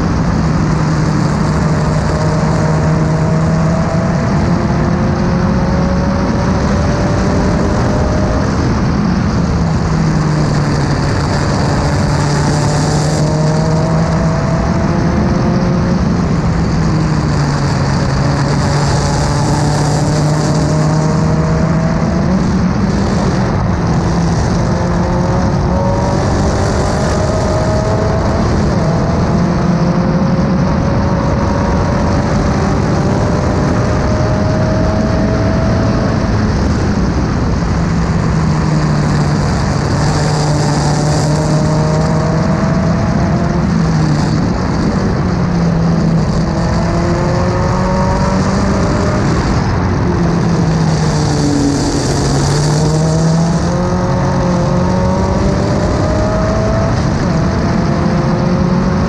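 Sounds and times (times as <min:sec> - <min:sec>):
loud background noise: 0:00.0 - 0:59.0
race car engine at full throttle: 0:00.0 - 0:59.0.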